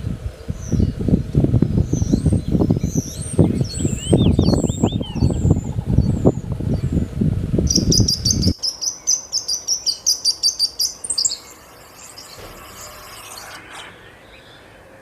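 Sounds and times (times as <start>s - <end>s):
loud rough low noise: 0.0s - 8.6s, 10.0s - 15.0s
bird chirping rapidly: 1.7s - 14.8s.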